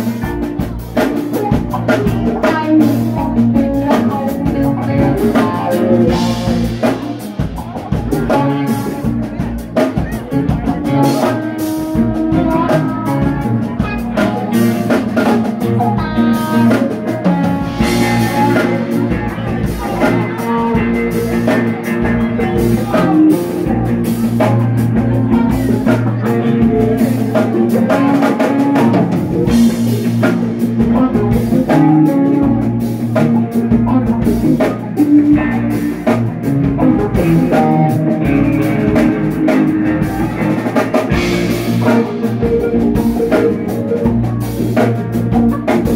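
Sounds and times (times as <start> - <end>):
bass guitar: 0.0 - 45.9
drum kit beat: 0.0 - 45.9
electric guitars: 0.0 - 45.9
keyboard: 0.0 - 45.9.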